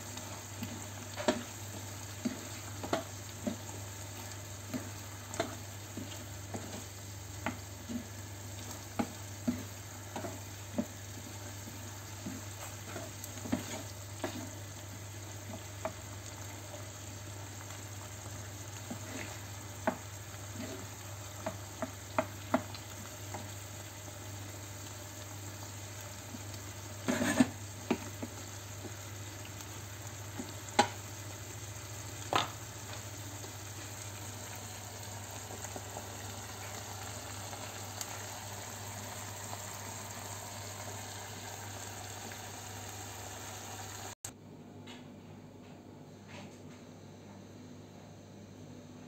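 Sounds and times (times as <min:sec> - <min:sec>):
meat sizzling in a pan: 0:00.0 - 0:44.3.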